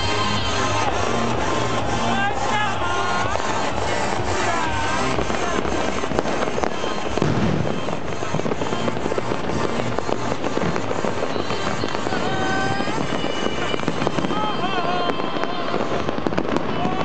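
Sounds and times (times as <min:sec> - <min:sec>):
fireworks crackling and bangs: 0:00.0 - 0:17.0.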